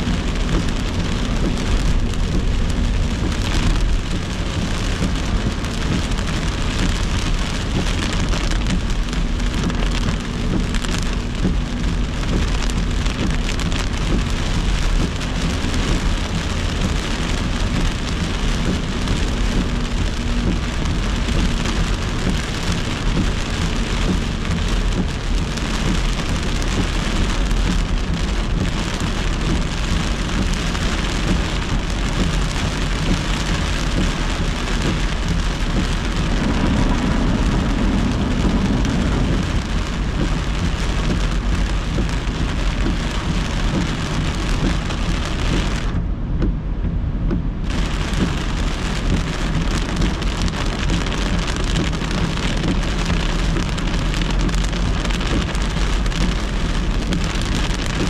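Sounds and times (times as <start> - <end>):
heavy rain on car windshield: 0.0 - 58.0
low road noise: 0.0 - 58.0.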